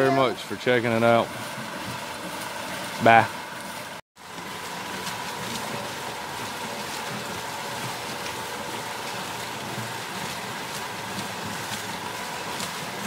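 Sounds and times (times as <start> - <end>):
thin steady whine: 0.0 - 13.0
water pouring and splashing: 0.0 - 13.0.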